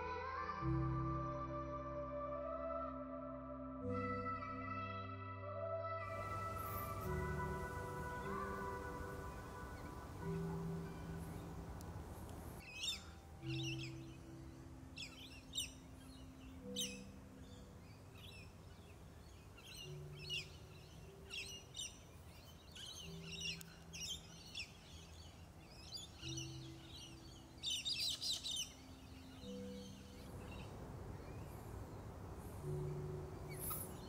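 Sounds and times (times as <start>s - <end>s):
birds chirping: 6.1s - 34.0s.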